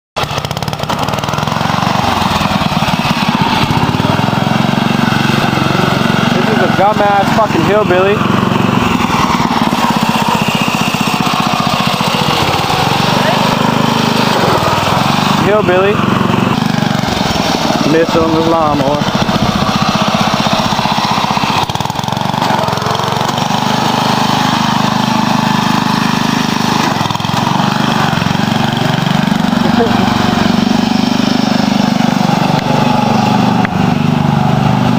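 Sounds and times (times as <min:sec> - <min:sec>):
riding lawn tractor engine running: 0:00.2 - 0:34.9.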